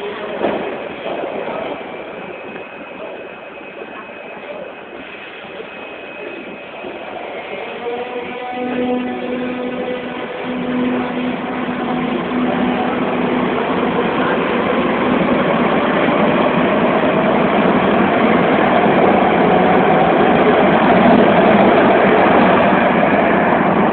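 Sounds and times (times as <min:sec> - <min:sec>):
train wheel and running noise: 0:00.0 - 0:23.9.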